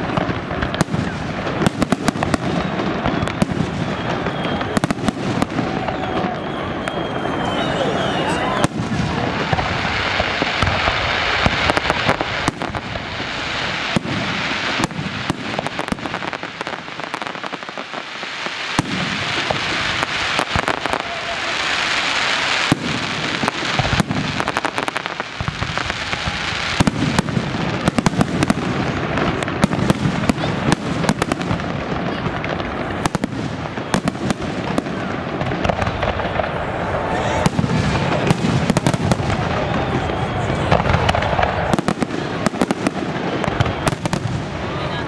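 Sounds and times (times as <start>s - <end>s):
fireworks bursting with bangs: 0.0s - 45.0s
fireworks crackling hiss: 0.0s - 45.0s.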